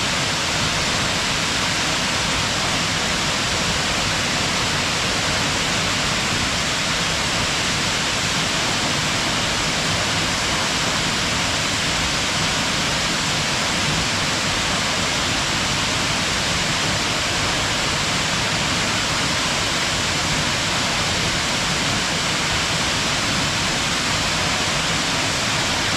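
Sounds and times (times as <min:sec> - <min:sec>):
waterfall roaring: 0:00.0 - 0:25.9.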